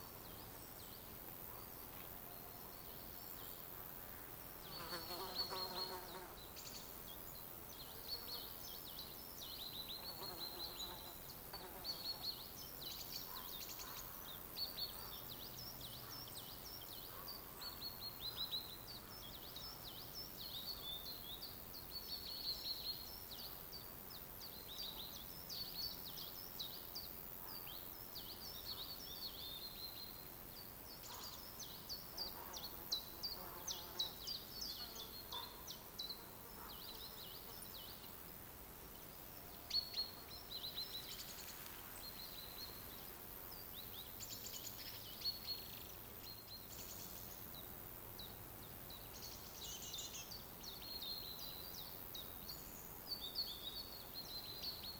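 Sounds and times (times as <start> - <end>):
faint steady hiss: 0.0 - 54.9
songbirds chirping: 0.0 - 54.9.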